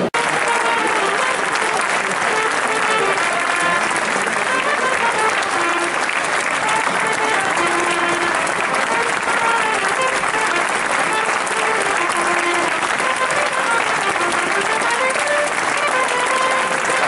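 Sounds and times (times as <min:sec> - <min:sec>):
crowd applauding: 0:00.0 - 0:17.0
voices: 0:00.0 - 0:17.0.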